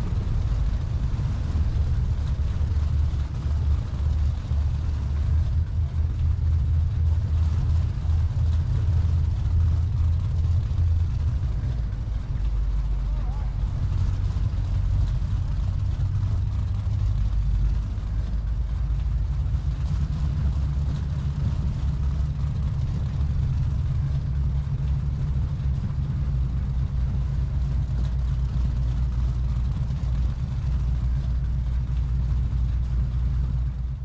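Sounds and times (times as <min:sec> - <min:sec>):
powerboat engines droning: 0:00.0 - 0:34.0.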